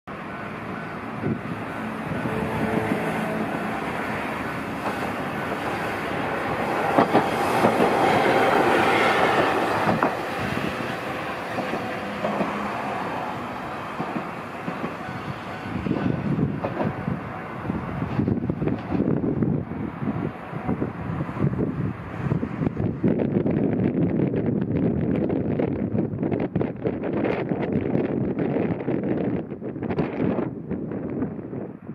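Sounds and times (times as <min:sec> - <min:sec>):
tram running on rails: 0:00.1 - 0:31.9.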